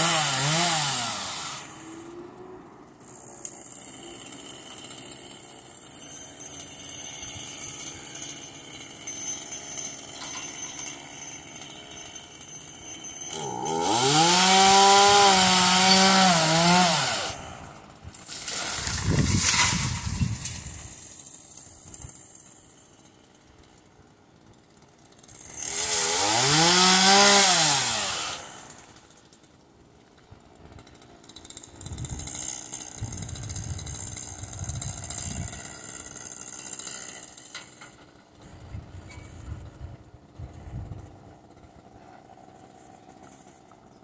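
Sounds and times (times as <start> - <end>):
small chainsaw running: 0.0 - 29.5, 30.2 - 38.6, 40.4 - 44.0.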